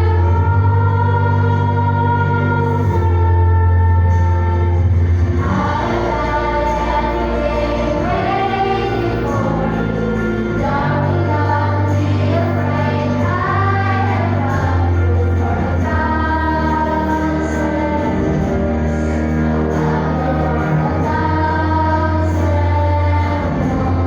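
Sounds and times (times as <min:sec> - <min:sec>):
choir singing: 0:00.0 - 0:24.0
instrumental accompaniment: 0:00.0 - 0:24.0.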